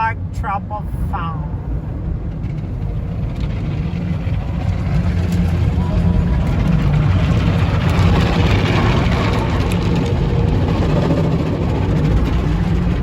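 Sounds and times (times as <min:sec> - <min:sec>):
car wash machinery rumbling and hissing: 0:00.0 - 0:13.0.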